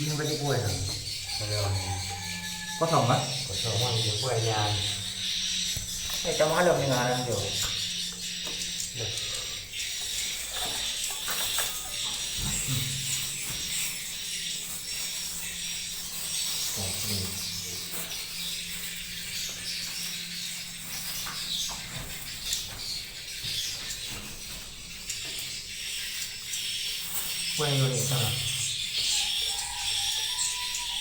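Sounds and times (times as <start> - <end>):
swiftlets twittering: 0.0 - 21.6, 25.7 - 31.0.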